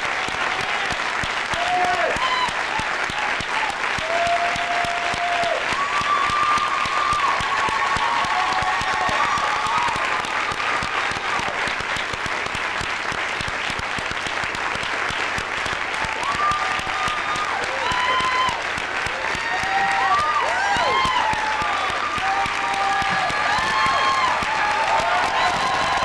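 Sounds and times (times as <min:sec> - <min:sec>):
audience applauding: 0:00.0 - 0:26.0
crowd cheering: 0:00.0 - 0:26.0.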